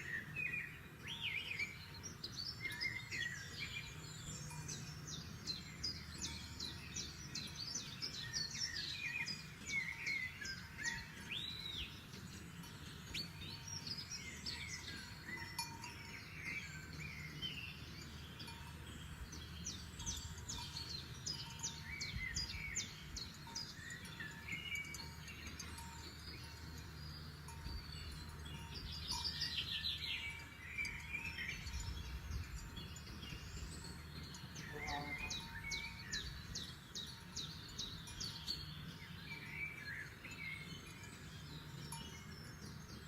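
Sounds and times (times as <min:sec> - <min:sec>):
songbirds singing: 0:00.0 - 0:43.0.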